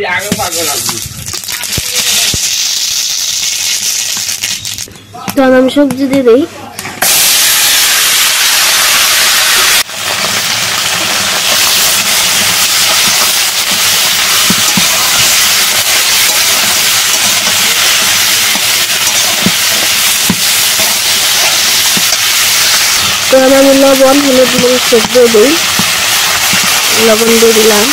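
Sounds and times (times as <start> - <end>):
vegetables sizzling in hot oil: 0.4 - 4.9, 7.0 - 27.9.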